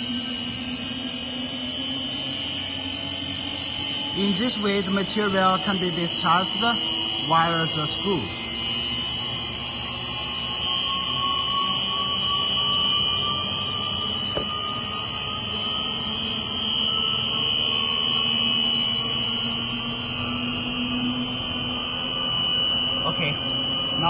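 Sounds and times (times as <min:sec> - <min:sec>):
high-pitched motor whine: 0:00.0 - 0:24.0.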